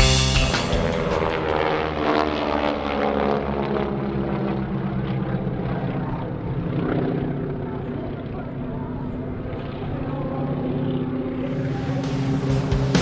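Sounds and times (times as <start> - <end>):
radial aircraft engines droning: 0.0 - 13.0.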